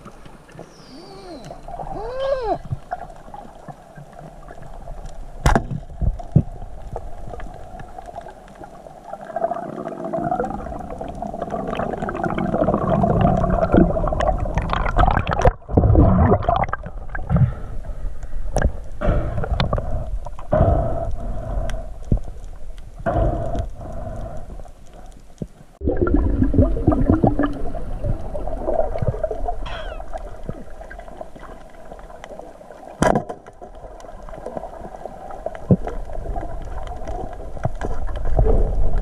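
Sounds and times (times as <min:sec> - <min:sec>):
underwater water rushing and gurgling: 0:00.0 - 0:39.0.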